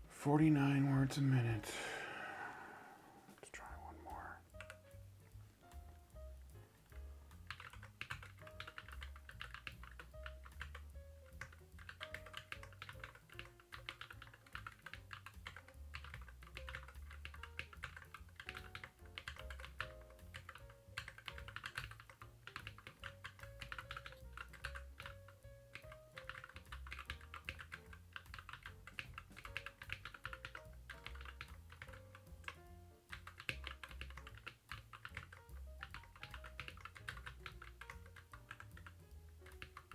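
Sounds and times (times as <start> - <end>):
fast mechanical keyboard typing: 6.9 - 39.9.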